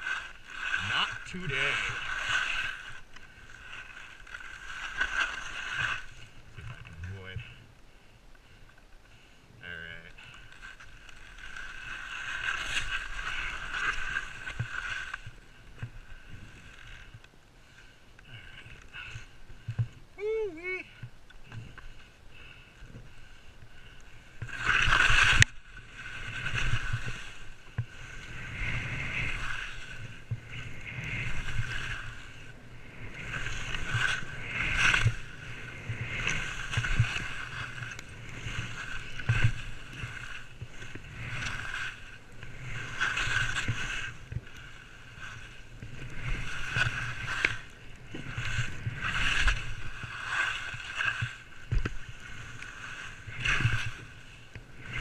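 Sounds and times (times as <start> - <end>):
skis scraping on packed snow: 0.0 - 55.0.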